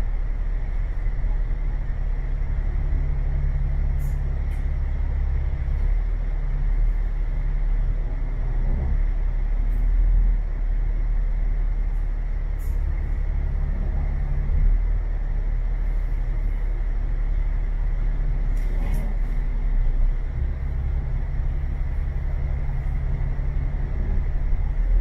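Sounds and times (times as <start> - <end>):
bus diesel engine drone: 0.0 - 25.0.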